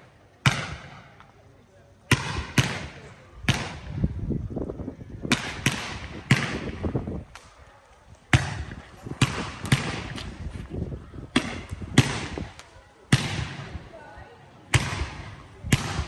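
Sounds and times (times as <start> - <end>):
firework rockets bursting: 0.4 - 1.3, 2.1 - 4.2, 5.2 - 14.0, 14.7 - 16.0.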